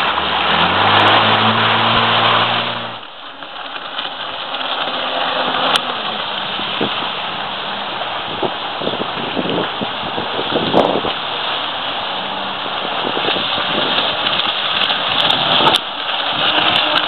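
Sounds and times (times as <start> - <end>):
jet ski engine running: 0.0 - 17.0
wind and water spray rushing: 0.0 - 17.0.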